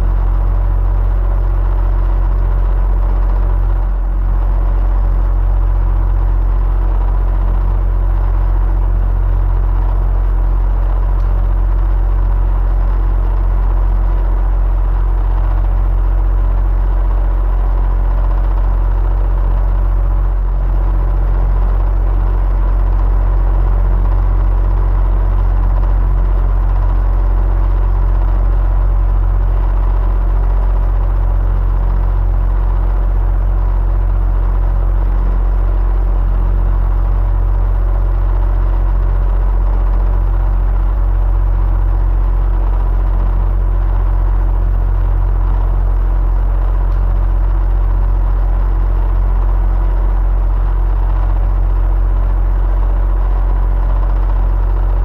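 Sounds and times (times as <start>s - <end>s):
electric fan humming: 0.0s - 52.0s, 52.8s - 55.0s.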